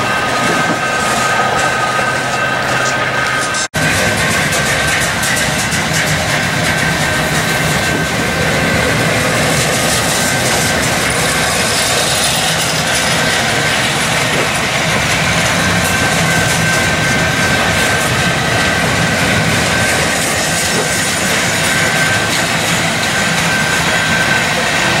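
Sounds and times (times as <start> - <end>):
high wheel squeal: 0.0 - 25.0
train wheels clattering on rails: 0.0 - 25.0.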